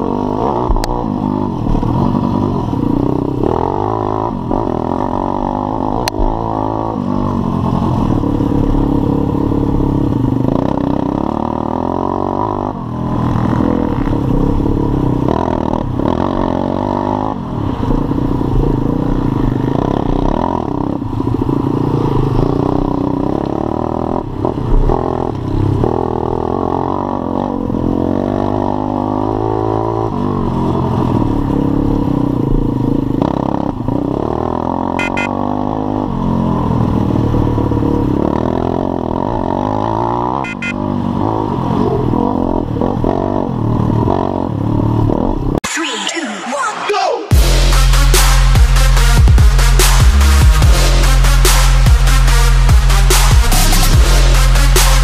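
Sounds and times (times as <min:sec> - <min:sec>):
motorbike engine revving: 0:00.0 - 0:45.6, 0:47.3 - 0:55.0.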